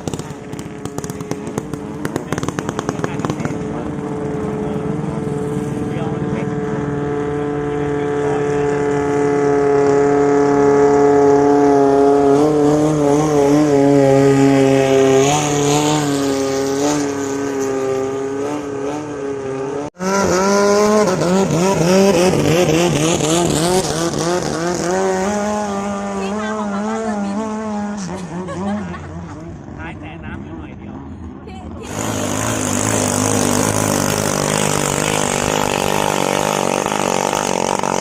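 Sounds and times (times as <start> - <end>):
boat engine at high revs: 0.0 - 38.0
engine revving up and down: 0.0 - 38.0.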